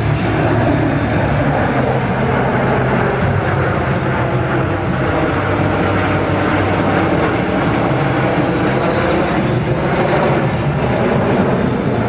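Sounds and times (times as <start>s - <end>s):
jets flying past roaring: 0.0s - 12.0s.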